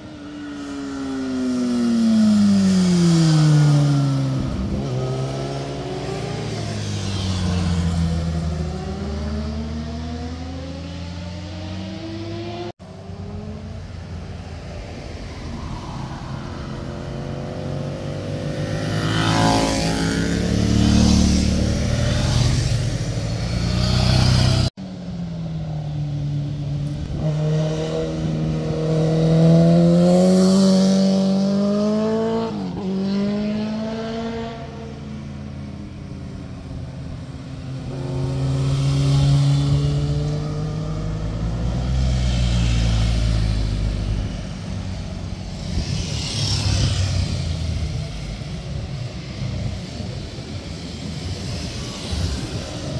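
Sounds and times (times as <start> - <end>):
motorcycle engines revving past: 0.0 - 24.8, 25.9 - 52.9.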